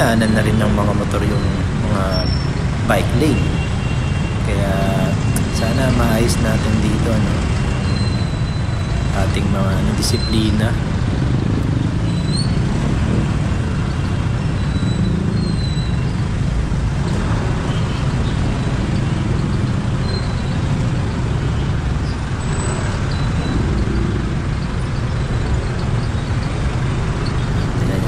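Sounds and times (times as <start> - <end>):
diesel vehicle engines: 0.0 - 28.0.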